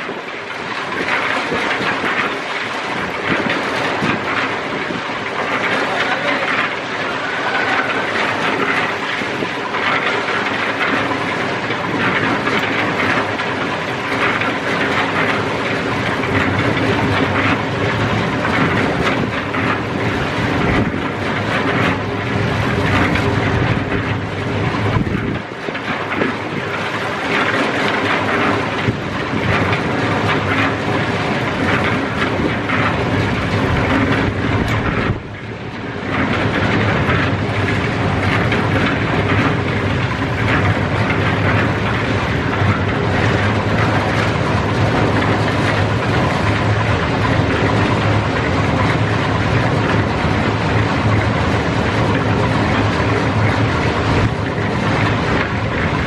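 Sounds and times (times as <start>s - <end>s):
loud machinery noise: 0.0s - 56.0s.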